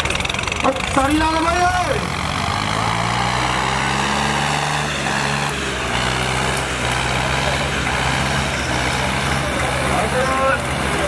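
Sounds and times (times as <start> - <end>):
tractor engines under heavy load: 0.0 - 11.0.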